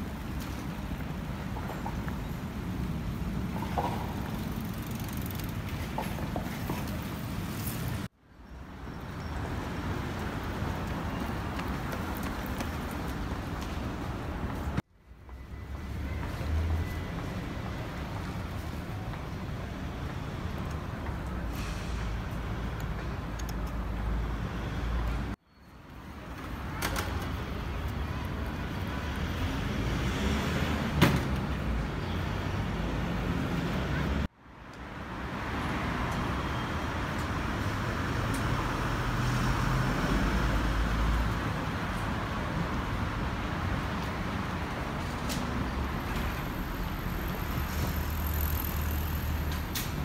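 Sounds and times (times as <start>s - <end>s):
road traffic hum: 0.0s - 50.0s.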